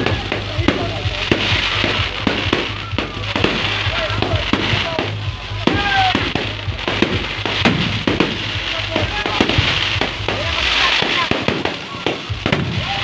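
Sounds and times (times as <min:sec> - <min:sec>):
fireworks bangs and crackling: 0:00.0 - 0:13.0
music with pulsing bass beat: 0:00.0 - 0:13.0.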